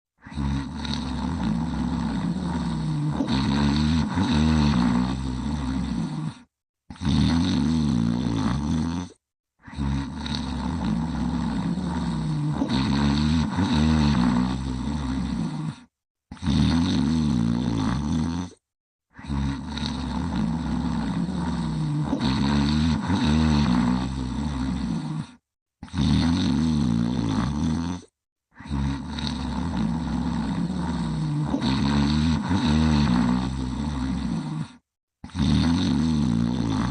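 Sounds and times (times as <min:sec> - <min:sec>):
rumbling growly snoring: 0:00.2 - 0:36.9.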